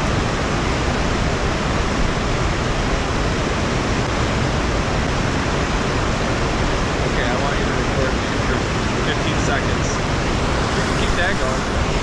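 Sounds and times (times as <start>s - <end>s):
water rushing over dam: 0.0s - 12.0s.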